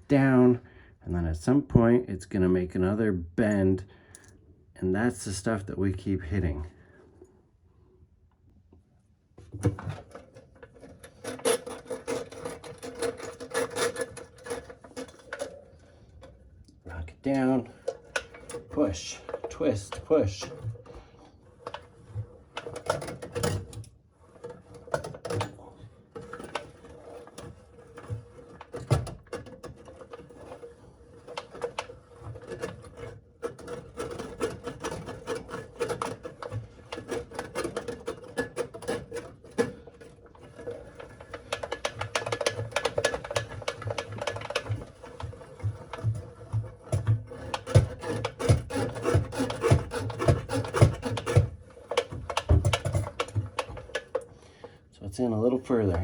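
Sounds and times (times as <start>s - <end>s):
drain snake scraping pipe: 9.7s - 56.0s.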